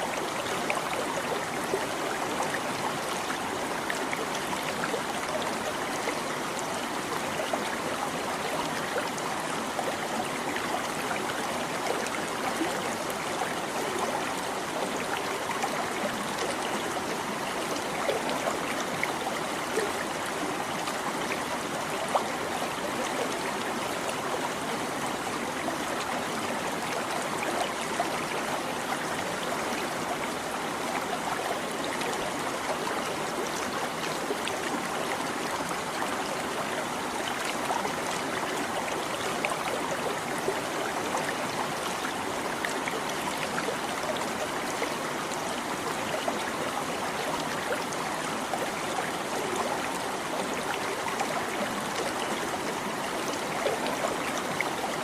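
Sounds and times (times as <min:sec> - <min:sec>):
stream babbling and trickling: 0:00.0 - 0:55.0.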